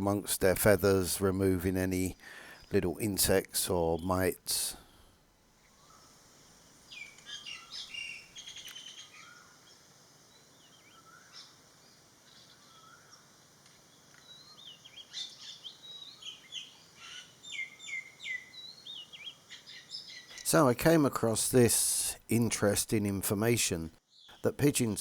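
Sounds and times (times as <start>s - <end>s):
small birds chirping: 0.0s - 4.9s, 5.6s - 25.0s.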